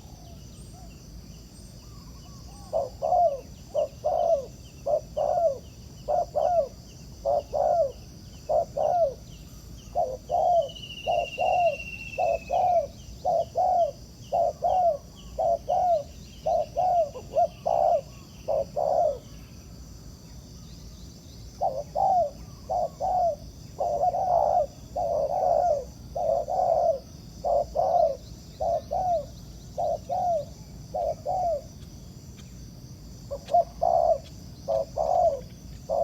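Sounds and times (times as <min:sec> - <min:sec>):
doves cooing: 0:01.9 - 0:09.3, 0:09.9 - 0:19.3, 0:21.6 - 0:31.7, 0:33.3 - 0:36.0.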